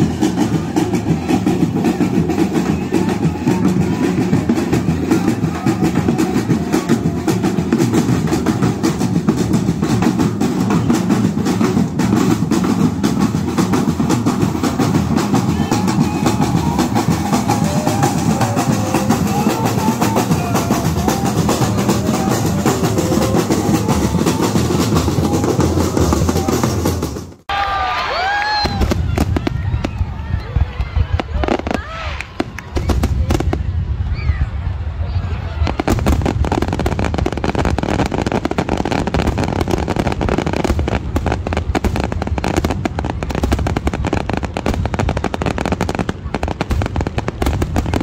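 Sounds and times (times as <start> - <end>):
deeper drums: 0.0 - 27.5, 28.6 - 34.6, 35.6 - 48.0
marching drum band: 0.0 - 27.5, 35.7 - 48.0
snare drums beating: 0.0 - 27.5, 35.7 - 48.0.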